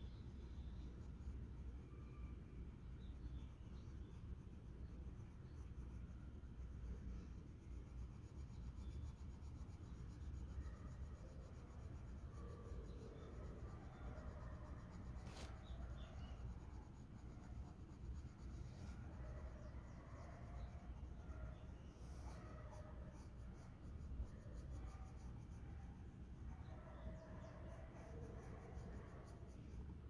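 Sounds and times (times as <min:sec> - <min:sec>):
pencil scratching on paper: 0:03.0 - 0:30.0.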